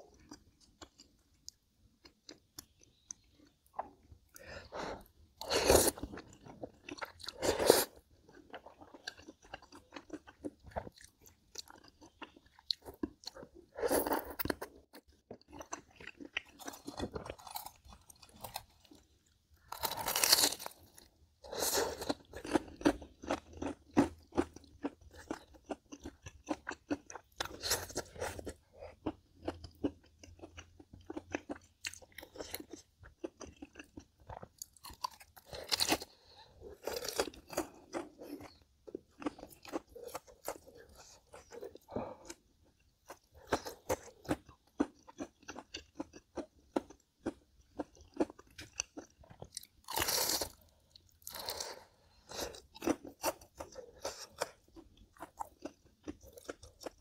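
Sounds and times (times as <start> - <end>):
chewing crisp food: 0.0 - 57.0.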